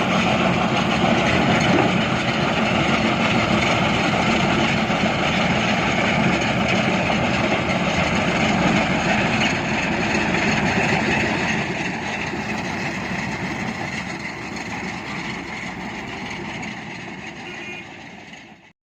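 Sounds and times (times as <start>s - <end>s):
heavy construction machinery: 0.0s - 18.7s.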